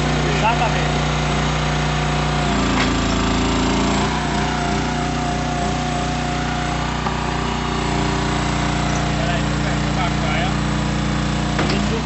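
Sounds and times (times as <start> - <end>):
drilling rig engine running: 0.0 - 12.0
steady hydraulic whine: 0.0 - 12.0.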